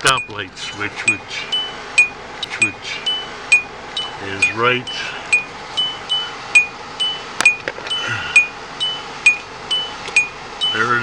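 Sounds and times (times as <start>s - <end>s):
car warning chime ding: 0.0s - 11.0s.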